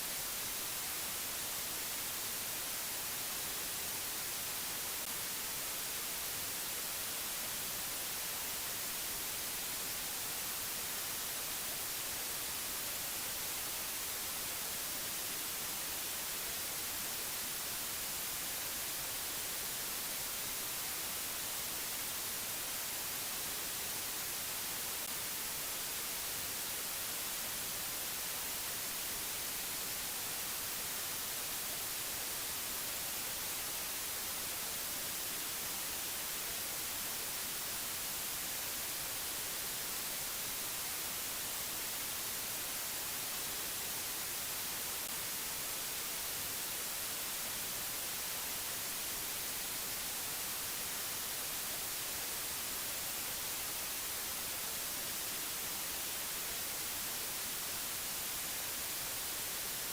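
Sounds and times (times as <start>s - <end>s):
steady static hiss: 0.0s - 59.9s.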